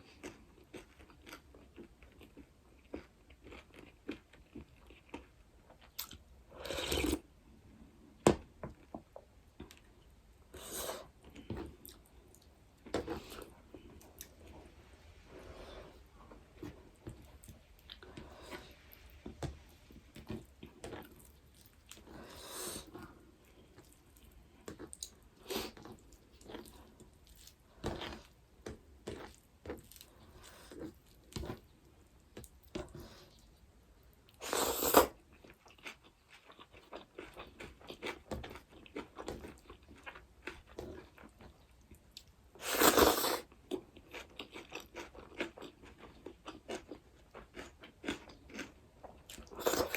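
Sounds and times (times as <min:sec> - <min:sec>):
person chewing food: 0:00.0 - 0:07.3, 0:10.9 - 0:33.6, 0:34.3 - 0:49.9.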